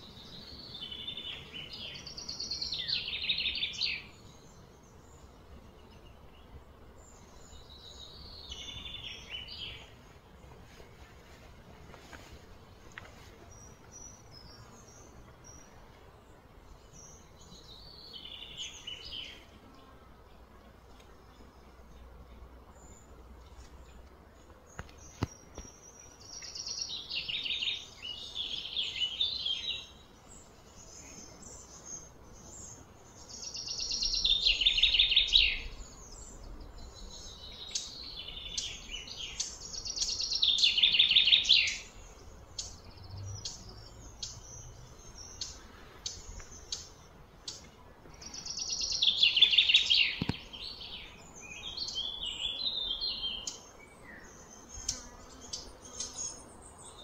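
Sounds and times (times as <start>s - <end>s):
bird singing buzzy trill: 0.0s - 10.2s, 13.4s - 20.5s, 21.2s - 57.0s.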